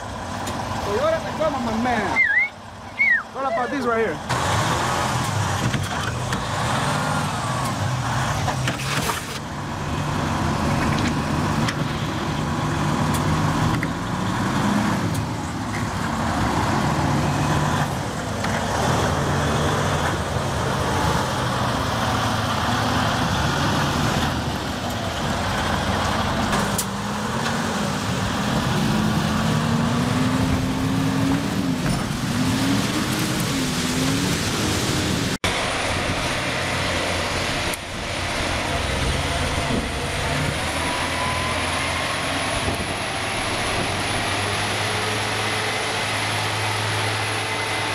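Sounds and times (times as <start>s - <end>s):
truck engine running under load: 4.0s - 47.9s.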